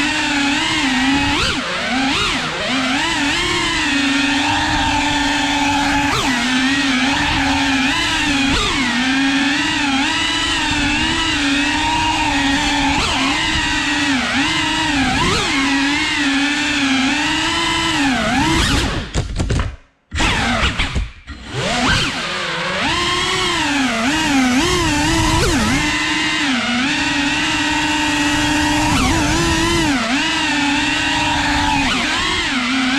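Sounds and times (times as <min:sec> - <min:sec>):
drone propellers whining: 0:00.0 - 0:19.0, 0:20.2 - 0:32.9.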